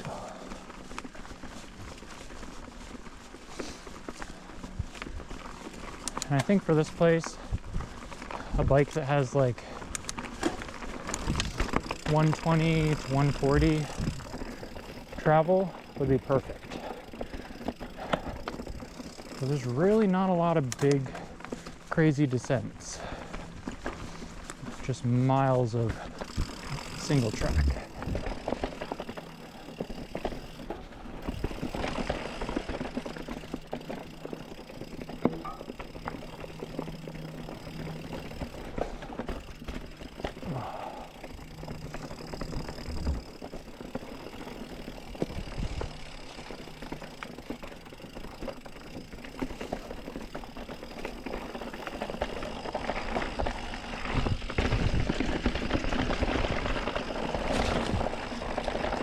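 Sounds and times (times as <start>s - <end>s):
bike clicking and rattling: 0.0s - 59.0s
bike tyres on dirt and rock: 0.0s - 59.0s.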